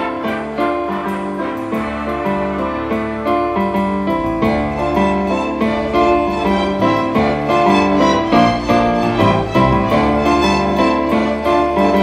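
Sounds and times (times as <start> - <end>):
orchestra playing: 0.0 - 12.0
struck piano-like notes: 0.0 - 12.0.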